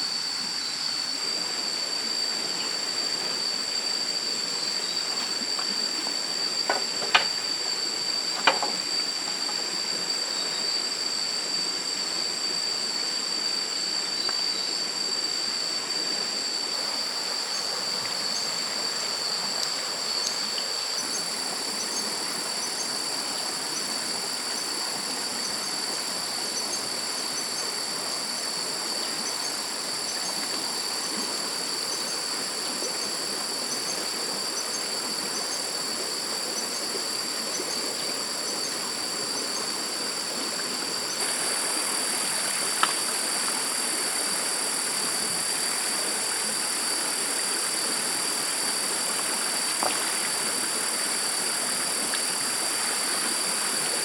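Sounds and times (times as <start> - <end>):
insects calling high tones: 0.0 - 54.0
stream water running: 0.0 - 54.0.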